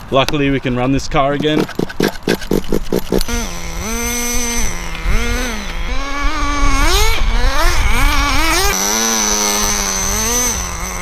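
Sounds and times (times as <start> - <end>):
small nitro engine revving: 1.4 - 11.0.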